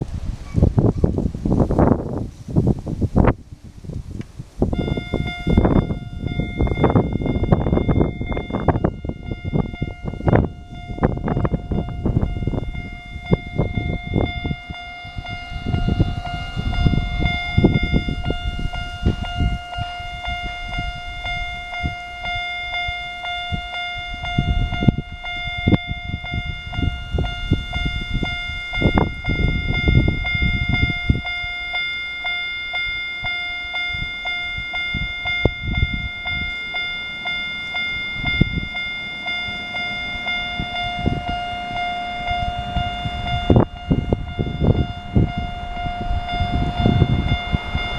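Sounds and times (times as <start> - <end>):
wind buffeting microphone: 0.0 - 47.9
level crossing alarm dinging: 4.7 - 47.9.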